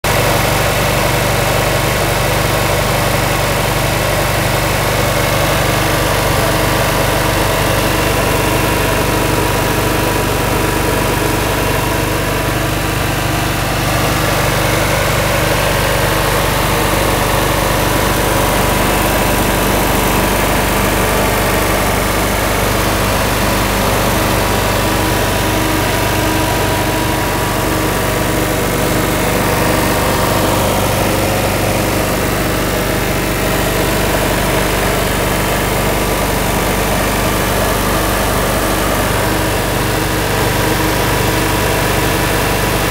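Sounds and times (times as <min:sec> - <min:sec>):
generator engine running: 0:00.0 - 0:42.9.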